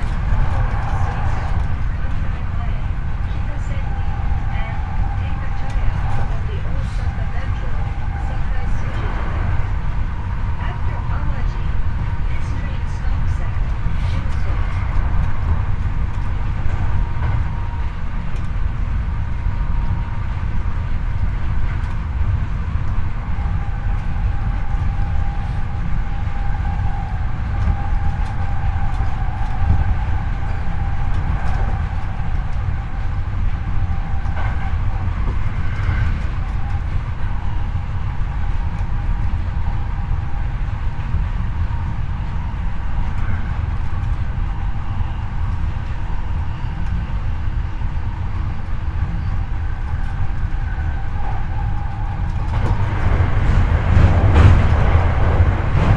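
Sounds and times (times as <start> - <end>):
faint traction motor whine: 0.0 - 55.9
train wheels rumbling on rails: 0.0 - 55.9.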